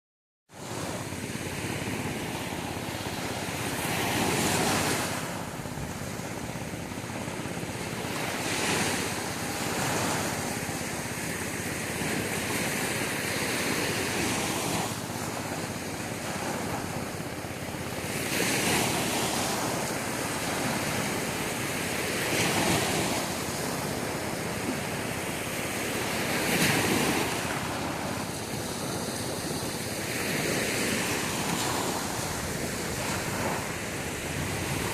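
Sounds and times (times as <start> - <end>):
sea waves breaking on beach: 0.5 - 34.9.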